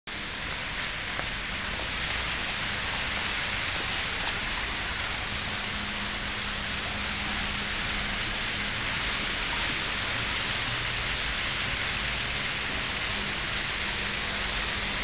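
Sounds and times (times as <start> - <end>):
water trickling into gutter: 0.1 - 15.0.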